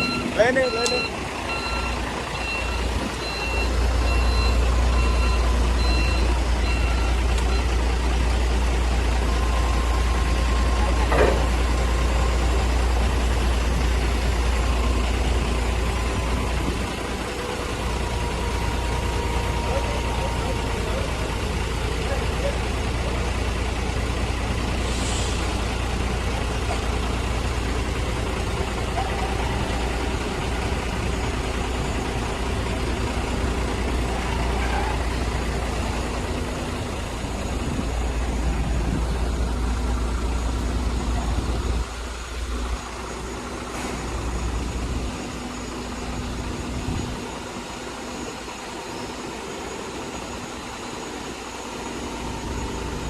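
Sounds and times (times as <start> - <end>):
electric truck low rumble: 0.0 - 53.0.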